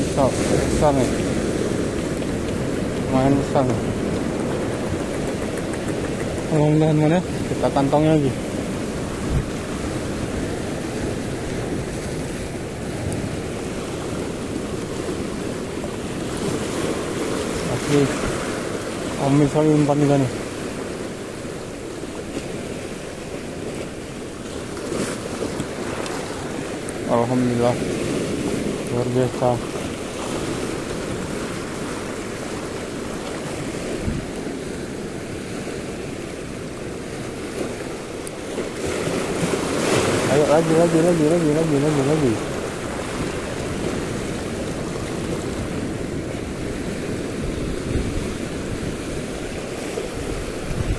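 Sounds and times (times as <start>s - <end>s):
sea waves on shore: 0.0s - 50.9s
wind rumbling on microphone: 0.0s - 50.9s.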